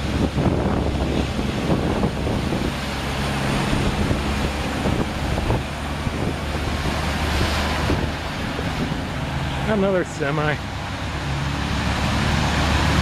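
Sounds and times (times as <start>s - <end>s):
floodwater rushing: 0.0s - 13.0s
truck diesel engine running: 0.0s - 13.0s
water splashing around wheels: 0.0s - 13.0s.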